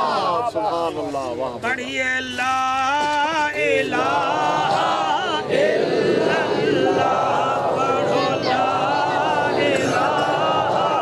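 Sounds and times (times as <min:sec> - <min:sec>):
men chanting in unison: 0:00.0 - 0:00.6, 0:01.6 - 0:11.0.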